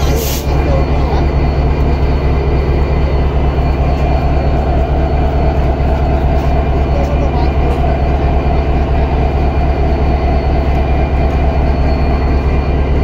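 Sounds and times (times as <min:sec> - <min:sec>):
diesel locomotive engine idling: 0:00.0 - 0:13.0.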